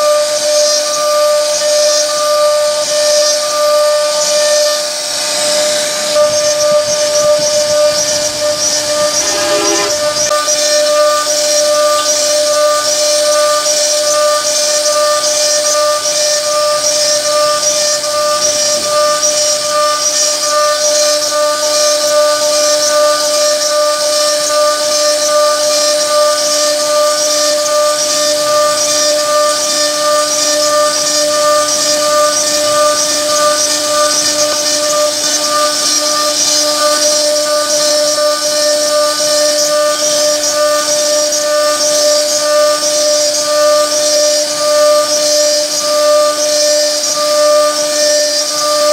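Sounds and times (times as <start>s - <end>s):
router spindle whine: 0.0s - 48.9s.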